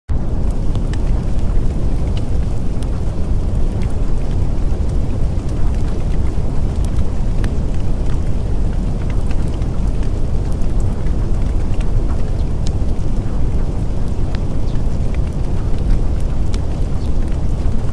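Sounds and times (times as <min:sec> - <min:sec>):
deep rumble: 0:00.1 - 0:17.9
dense rain: 0:00.1 - 0:17.9
sharp raindrop ticks: 0:00.1 - 0:17.9.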